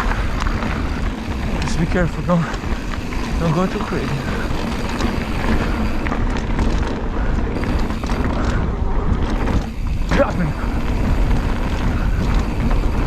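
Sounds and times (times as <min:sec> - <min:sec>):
bike rattling clicks: 0:00.0 - 0:13.0
tyres rolling over dirt: 0:00.0 - 0:13.0
wind on microphone: 0:00.0 - 0:13.0.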